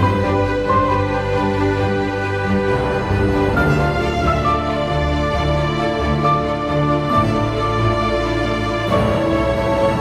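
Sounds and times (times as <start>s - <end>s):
background music of held notes: 0.0s - 10.0s.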